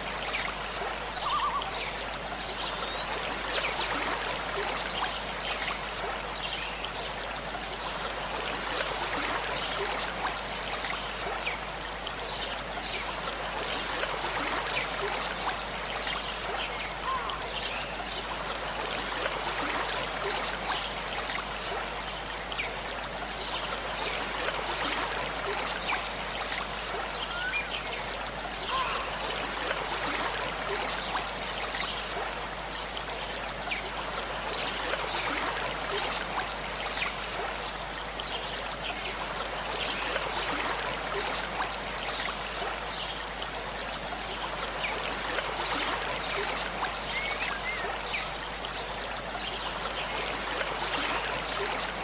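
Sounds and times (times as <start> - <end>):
small stream babbling: 0.0 - 52.0.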